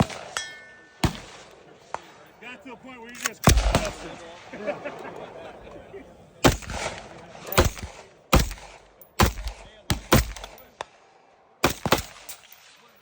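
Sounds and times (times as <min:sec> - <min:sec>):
rifle shots with echo: 0:00.0 - 0:02.3, 0:03.1 - 0:05.5, 0:06.4 - 0:13.0.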